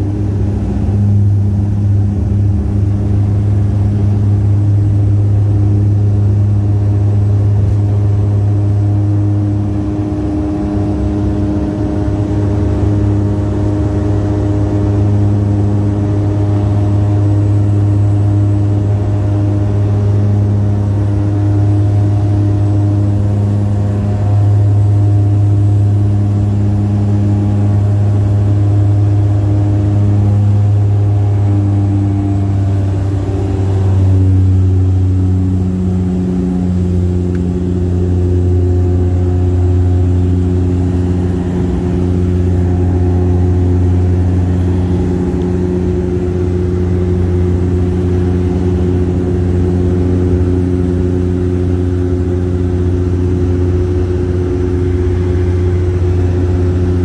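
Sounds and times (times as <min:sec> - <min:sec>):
plane engines droning in cabin: 0:00.0 - 0:57.0.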